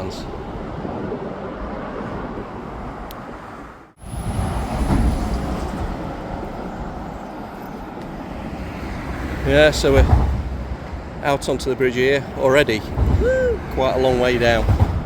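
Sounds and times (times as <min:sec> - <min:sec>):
road traffic rushing hum: 0:00.0 - 0:15.0.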